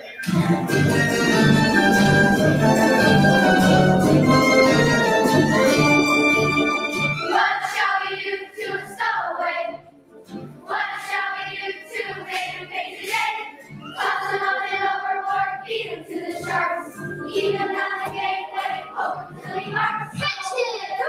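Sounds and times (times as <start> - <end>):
children's choir singing: 0.0 - 9.9, 10.6 - 21.0
musical accompaniment: 0.0 - 20.2.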